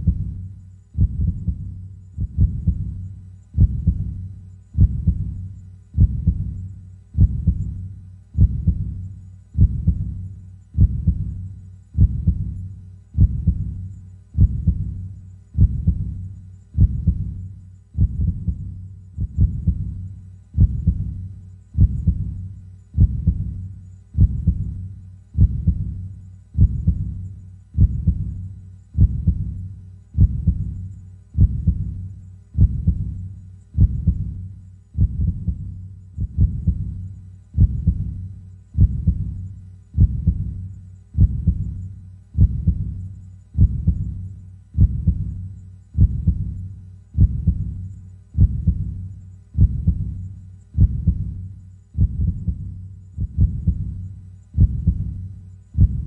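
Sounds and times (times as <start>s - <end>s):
heartbeat double thumps: 0.0s - 56.0s.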